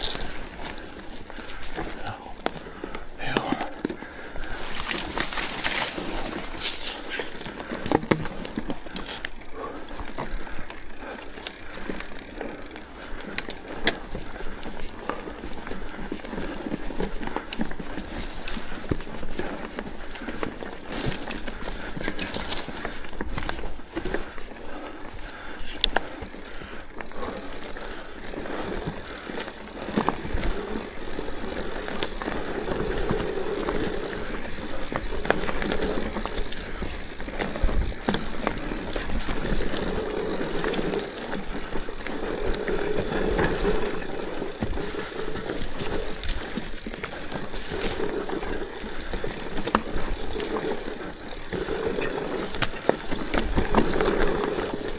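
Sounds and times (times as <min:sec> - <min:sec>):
bike rattling: 0:00.0 - 0:54.9
bike tyres on dirt: 0:00.0 - 0:54.9.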